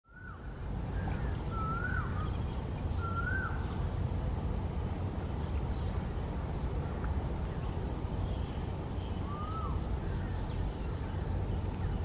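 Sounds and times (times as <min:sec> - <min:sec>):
whistled bird calls: 0:00.1 - 0:04.0, 0:05.2 - 0:12.0.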